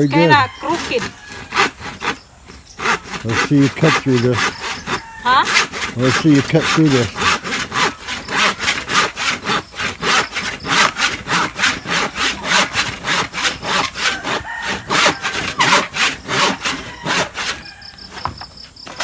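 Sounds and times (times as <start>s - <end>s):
handsaw cutting wood: 0.0s - 19.0s.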